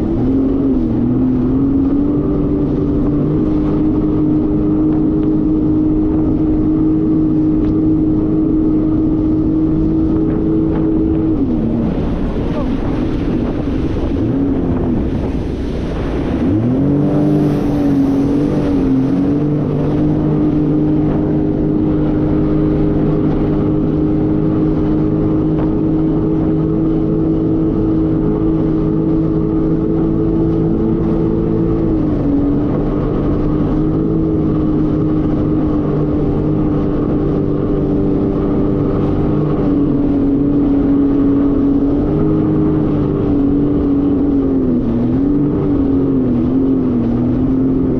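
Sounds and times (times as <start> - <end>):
jet ski engine running: 0.0 - 47.9.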